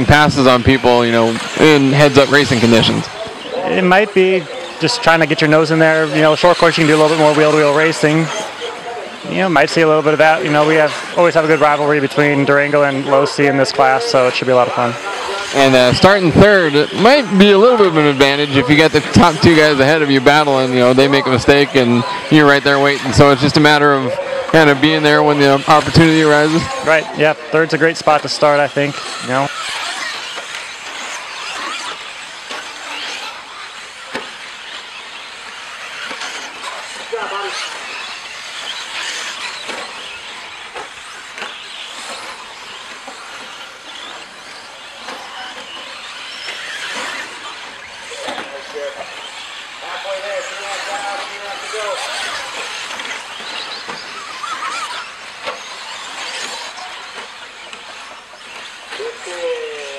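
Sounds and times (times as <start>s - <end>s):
electric motors whining: 0.0s - 59.9s.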